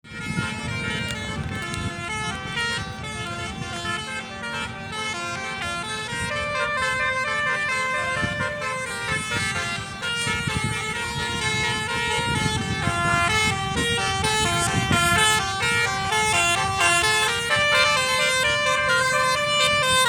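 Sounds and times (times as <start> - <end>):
bus horn playing a tune: 0.0 - 20.0.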